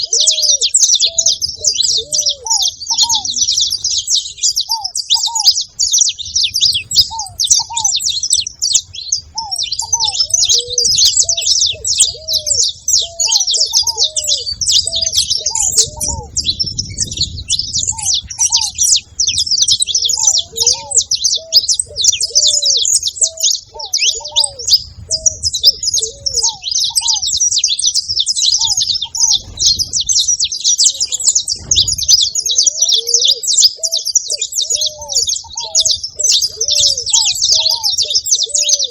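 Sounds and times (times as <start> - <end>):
finch chirps and trills: 0.0 - 38.9
lower bird call paired notes: 0.0 - 38.9.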